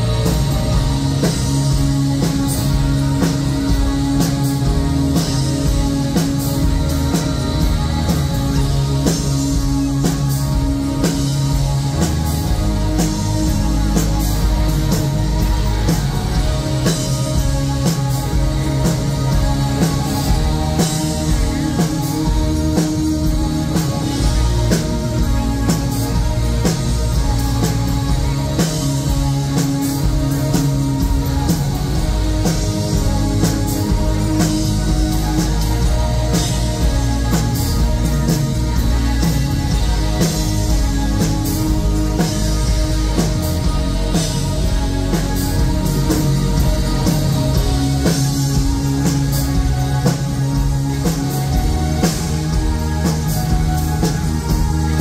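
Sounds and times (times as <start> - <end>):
drum kit steady beat: 0.0 - 55.0
rock band playing live: 0.0 - 55.0.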